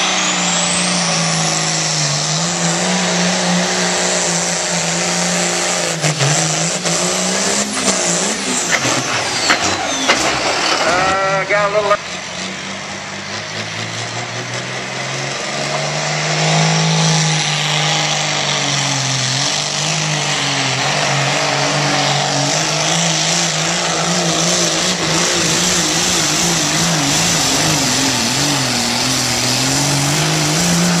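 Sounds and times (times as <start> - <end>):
diesel tractor engine under load: 0.0 - 31.0.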